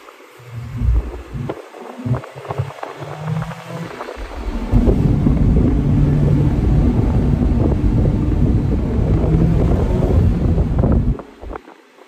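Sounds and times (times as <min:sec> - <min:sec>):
wind noise on microphone: 0:00.0 - 0:12.0
car engine accelerating: 0:00.5 - 0:11.6.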